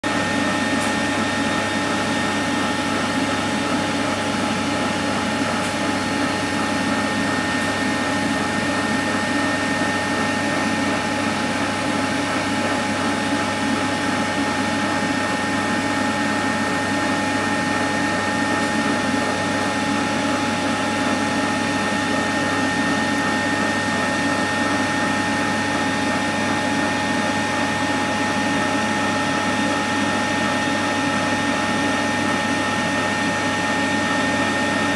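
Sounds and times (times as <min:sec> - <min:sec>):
air fryer fan and motor hum: 0:00.0 - 0:34.9.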